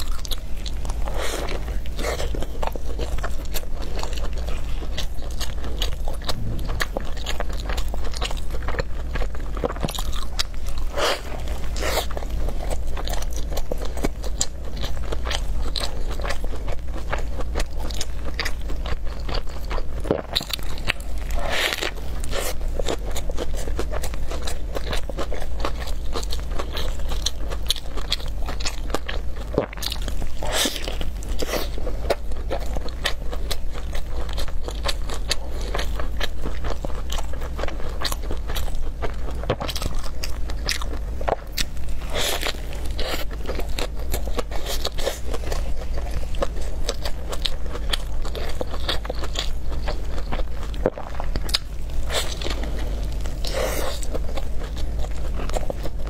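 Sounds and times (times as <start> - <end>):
person chewing crunchy food: 0.0 - 56.0
steady low hum: 0.0 - 56.0.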